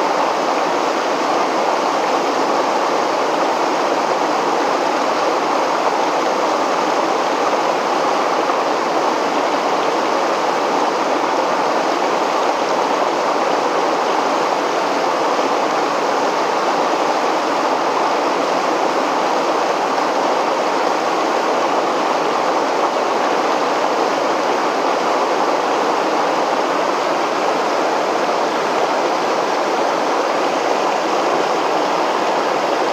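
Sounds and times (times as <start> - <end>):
river water rushing over weir: 0.0 - 32.9.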